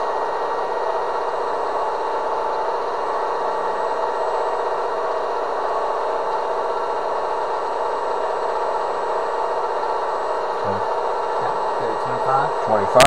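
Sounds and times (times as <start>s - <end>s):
electric motor spinning propeller: 0.0s - 13.0s.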